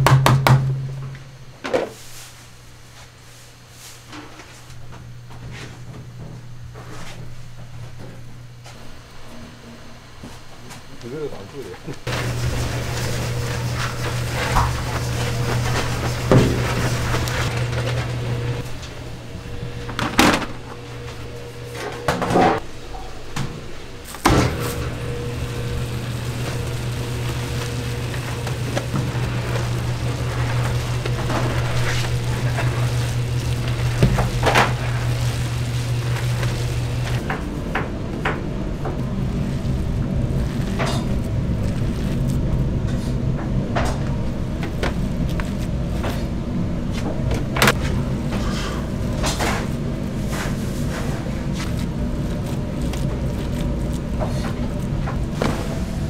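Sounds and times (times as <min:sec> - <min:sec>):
mixing machine humming: 0:11.0 - 0:56.0.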